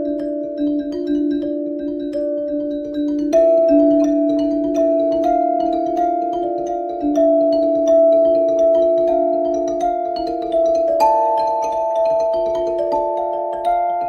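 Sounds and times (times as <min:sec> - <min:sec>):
held chords with struck notes: 0:00.0 - 0:14.0
light ticking percussion: 0:00.0 - 0:14.0.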